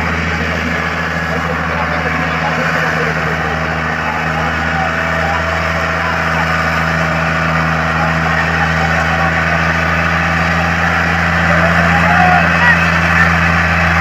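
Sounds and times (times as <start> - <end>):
tractor engine under heavy load: 0.0 - 14.0.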